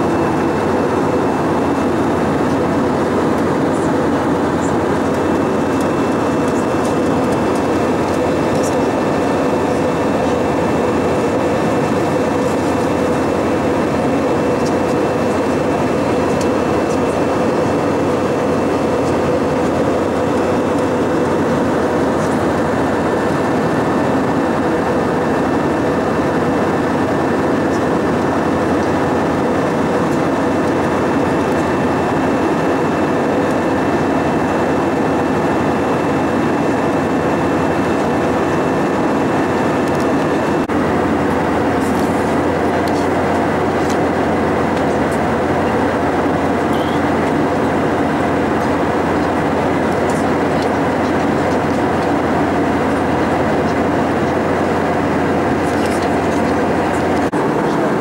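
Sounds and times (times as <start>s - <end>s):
aircraft cabin roar: 0.0s - 58.0s.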